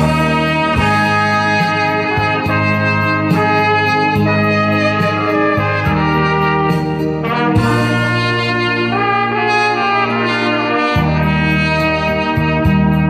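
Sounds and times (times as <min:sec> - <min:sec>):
bass line: 0:00.0 - 0:13.0
brassy lead wind instrument melody: 0:00.0 - 0:13.0
ticking hi-hat beat: 0:00.0 - 0:13.0.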